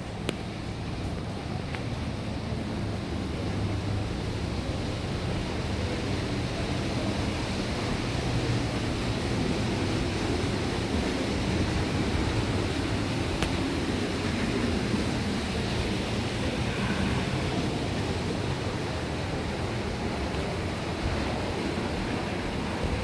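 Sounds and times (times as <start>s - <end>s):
boat engine drone: 0.0s - 23.0s
rushing water: 0.0s - 23.0s.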